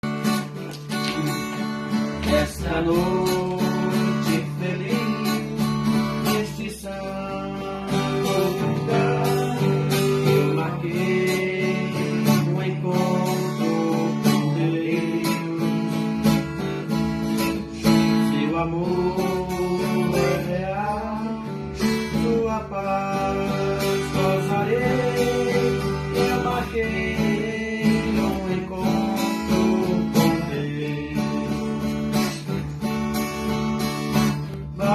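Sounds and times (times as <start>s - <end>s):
acoustic guitar playing: 0.0s - 34.9s.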